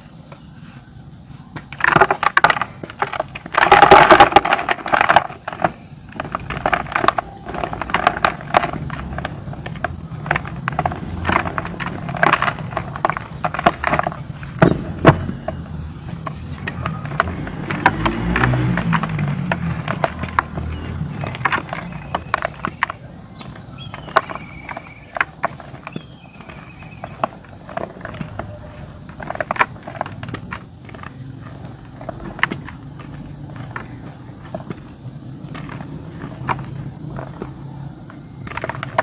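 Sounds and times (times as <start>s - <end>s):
dry clay crunching and cracking: 1.5s - 39.0s.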